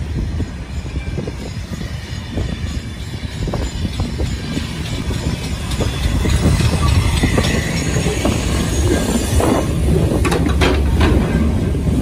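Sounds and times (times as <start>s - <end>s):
steam locomotive rumbling past: 0.0s - 12.0s.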